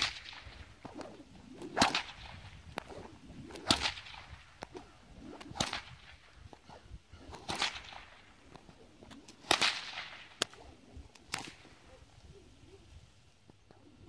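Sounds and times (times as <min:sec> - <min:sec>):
whip cracking: 0:00.0 - 0:12.0.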